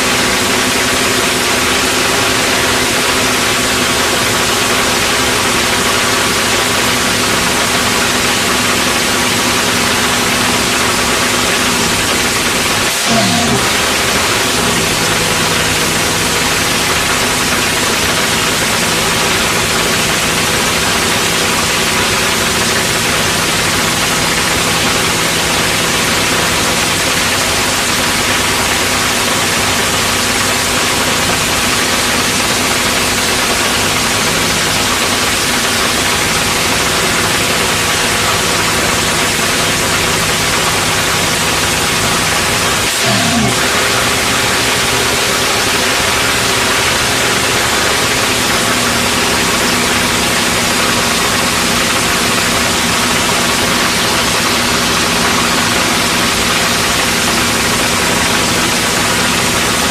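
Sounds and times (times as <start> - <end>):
dragster engine running loud: 0.0 - 59.9.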